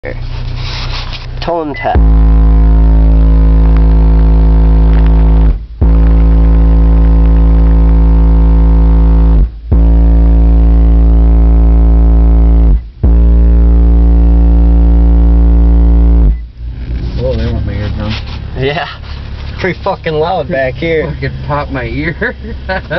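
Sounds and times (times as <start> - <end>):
distorted deep bass test tones: 0.0 - 22.9.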